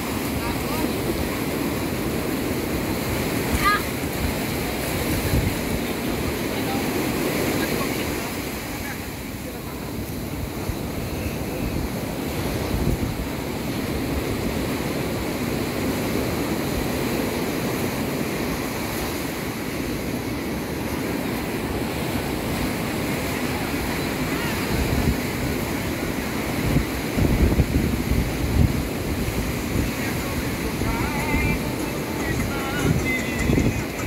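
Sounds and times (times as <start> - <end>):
wind buffeting microphone: 0.0 - 32.1
ocean surf washing ashore: 0.0 - 34.0.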